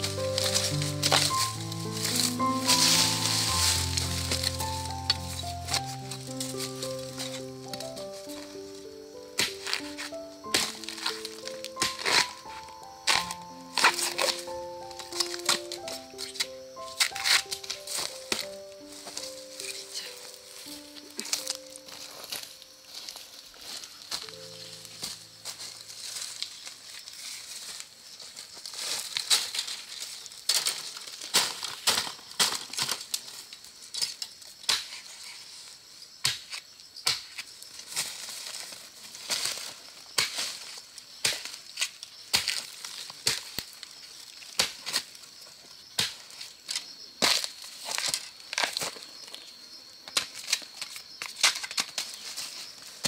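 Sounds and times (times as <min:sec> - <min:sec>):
dry leaves crunching and snapping: 0:00.0 - 0:34.5, 0:37.7 - 0:45.3, 0:46.1 - 0:49.4.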